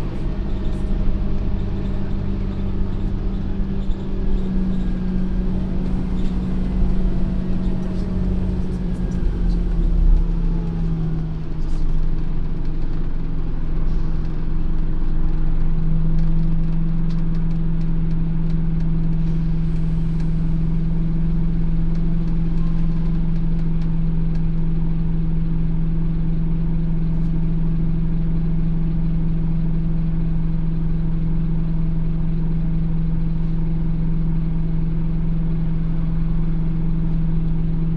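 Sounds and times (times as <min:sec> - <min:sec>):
bus diesel engine running: 0:00.0 - 0:37.9.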